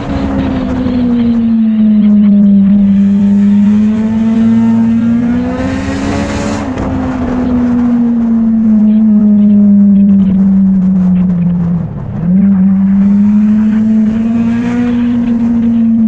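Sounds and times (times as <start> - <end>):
motorcycle engine cruising: 0.0 - 16.0
rush of noise: 0.0 - 16.0.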